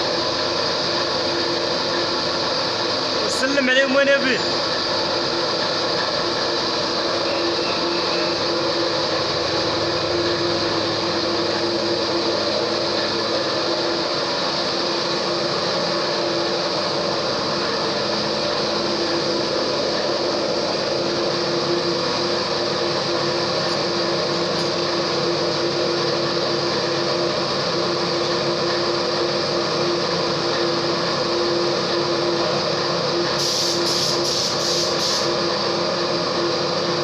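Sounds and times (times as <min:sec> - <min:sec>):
machine whirring and humming: 0:00.0 - 0:37.0.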